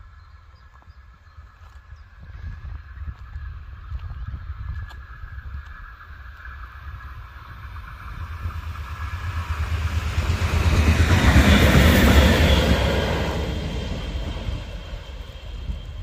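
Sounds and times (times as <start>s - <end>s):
diesel locomotive passing: 0.0s - 16.0s.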